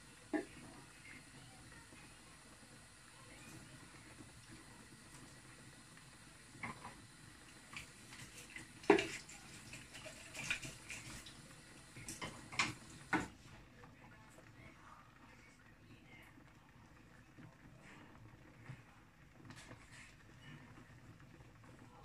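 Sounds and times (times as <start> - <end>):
faint steady hiss: 0.0 - 22.0
soup bubbling and popping: 0.1 - 22.0.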